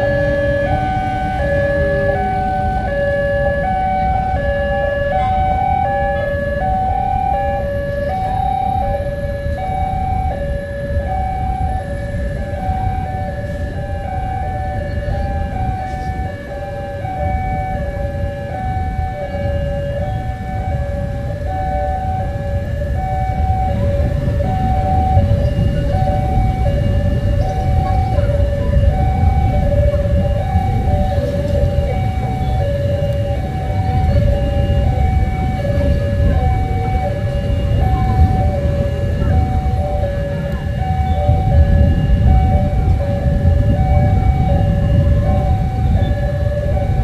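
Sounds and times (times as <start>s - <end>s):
steady low rumble: 0.0s - 47.0s
two-tone crossing alarm: 0.0s - 47.0s.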